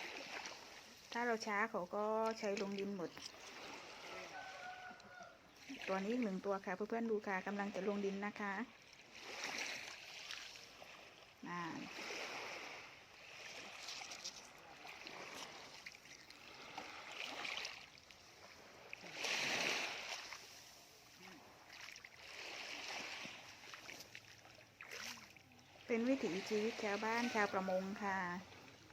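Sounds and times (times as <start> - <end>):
small waves washing on beach: 0.0 - 28.9.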